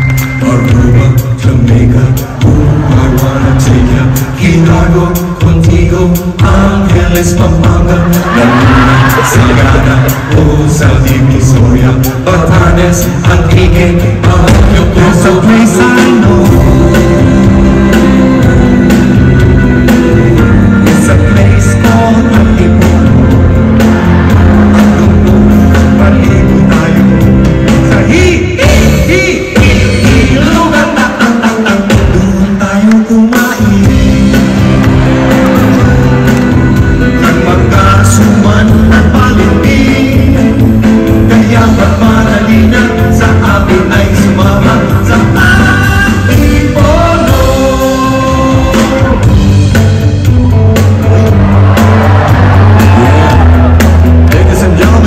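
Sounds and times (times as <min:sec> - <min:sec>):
men singing into microphones: 0:00.0 - 0:49.6, 0:51.9 - 0:55.0
drum kit: 0:00.0 - 0:55.0
guitar: 0:00.0 - 0:55.0
live rock band playing: 0:00.0 - 0:55.0.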